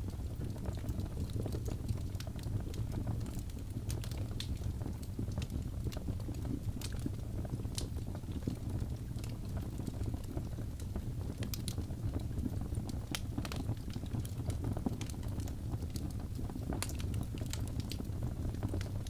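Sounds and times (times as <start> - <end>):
burning wood crackling and popping: 0.0 - 19.0
low rumble of flame: 0.0 - 19.0.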